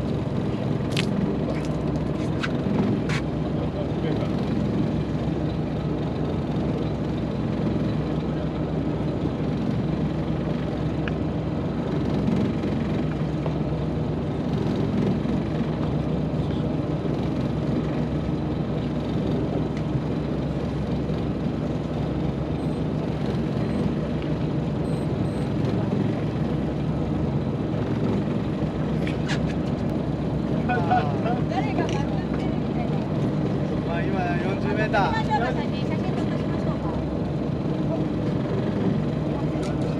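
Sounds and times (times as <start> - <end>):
boat machinery droning: 0.0 - 39.9.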